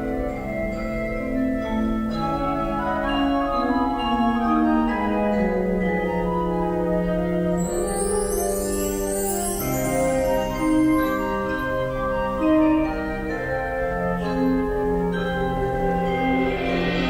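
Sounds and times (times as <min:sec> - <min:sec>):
wind band playing chords: 0:00.0 - 0:17.0.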